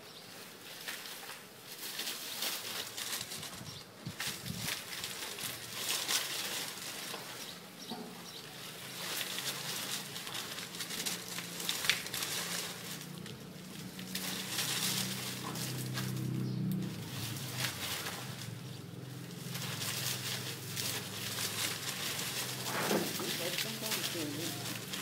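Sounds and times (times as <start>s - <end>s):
palm fronds rustling and crackling: 0.0s - 25.0s.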